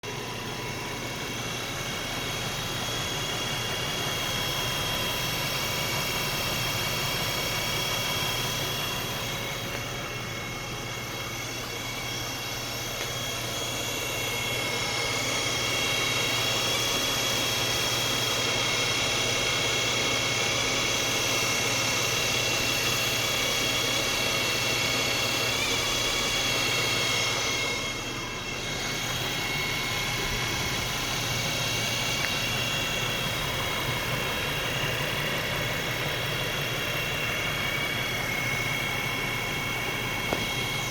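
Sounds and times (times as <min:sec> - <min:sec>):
high-pitched vehicle whine: 0:00.0 - 0:40.9
vehicle running noise: 0:00.0 - 0:40.9.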